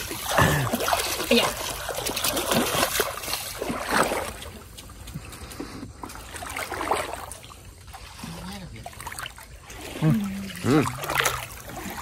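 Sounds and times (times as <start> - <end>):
water splashing in shallow river: 0.0 - 12.0.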